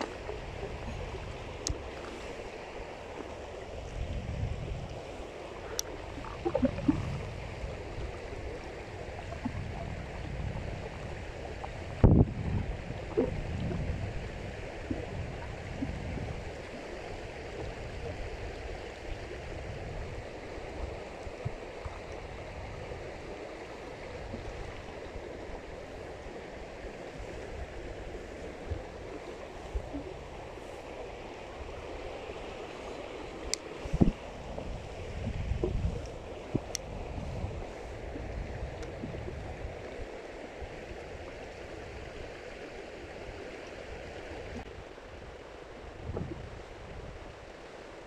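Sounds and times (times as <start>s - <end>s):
river water flowing: 0.0s - 48.0s.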